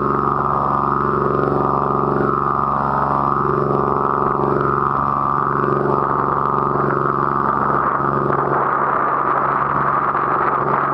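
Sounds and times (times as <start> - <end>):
boat engine running: 0.0 - 10.9.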